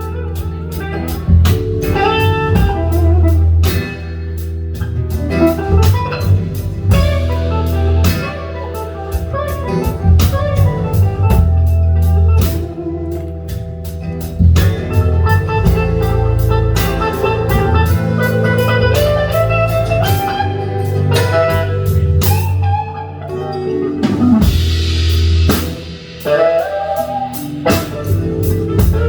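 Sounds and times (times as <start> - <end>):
instrumental blues-rock band: 0.0 - 29.0.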